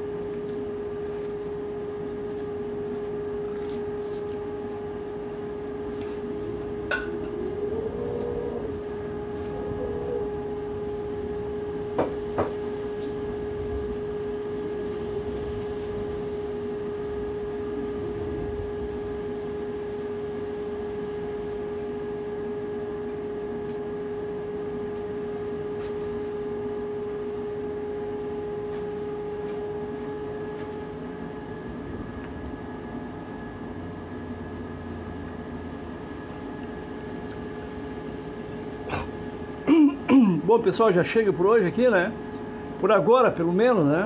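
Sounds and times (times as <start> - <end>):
constant humming tone: 0.0 - 44.0.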